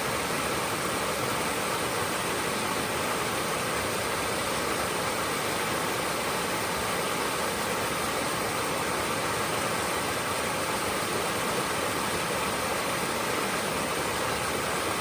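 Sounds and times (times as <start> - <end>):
brook flowing: 0.0 - 15.0.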